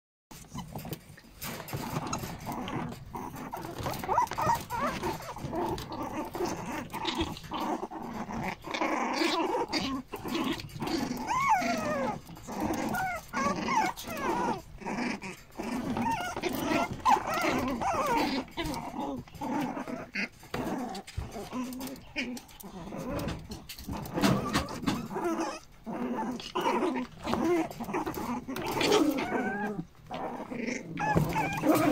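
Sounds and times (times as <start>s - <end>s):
puppies growling: 0.3s - 31.9s
puppies yipping and squealing: 0.4s - 31.9s.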